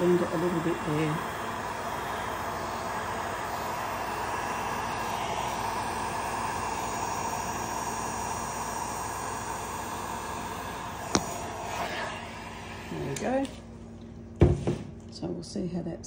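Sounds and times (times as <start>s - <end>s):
heat gun blowing: 0.0s - 13.6s.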